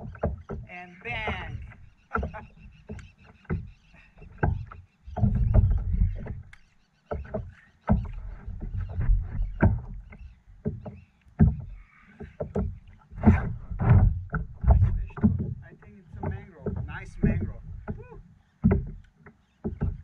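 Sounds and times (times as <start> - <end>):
knocks and thumps: 0.0 - 20.0.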